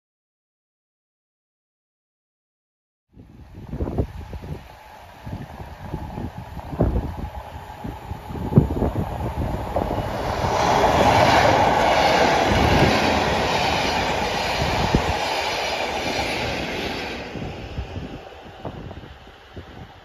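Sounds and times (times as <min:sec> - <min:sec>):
train passing at speed: 0:03.4 - 0:20.0.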